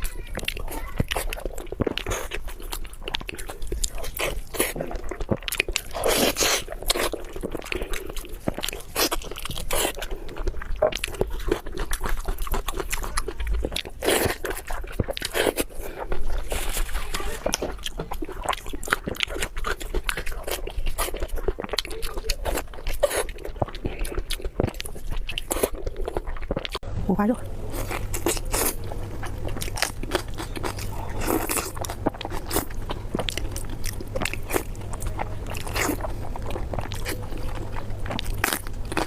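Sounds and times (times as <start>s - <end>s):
wet chewing and crunching: 0.0s - 39.0s.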